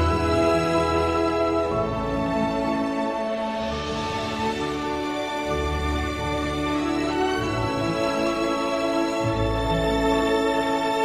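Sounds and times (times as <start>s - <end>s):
slow background music: 0.0s - 11.0s.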